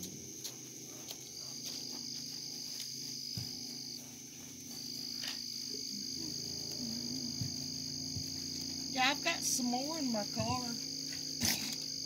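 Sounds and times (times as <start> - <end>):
low steady hum: 0.0 - 12.0
night insects trilling: 0.0 - 12.0.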